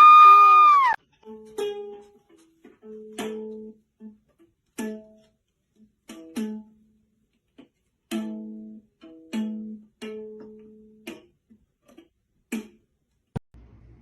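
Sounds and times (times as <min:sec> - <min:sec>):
plucked string tune: 0:01.0 - 0:12.9.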